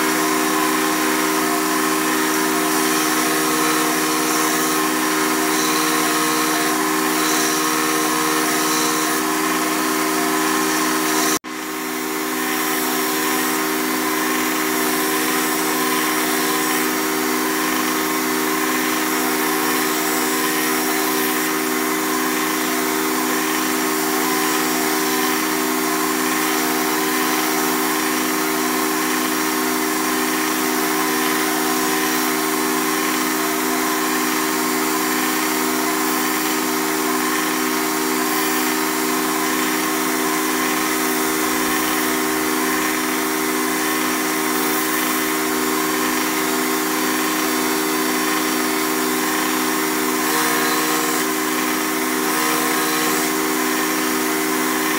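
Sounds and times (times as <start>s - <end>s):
belt grinder motor hum: 0.0s - 54.9s
blade grinding on abrasive belt: 0.0s - 54.9s.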